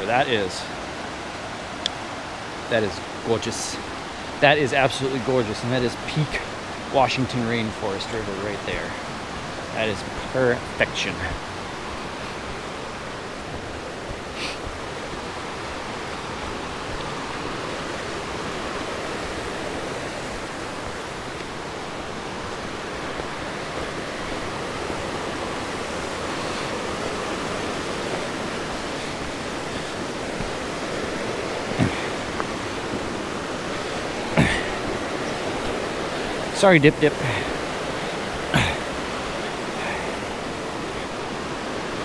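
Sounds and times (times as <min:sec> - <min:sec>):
river rushing: 0:00.0 - 0:42.0.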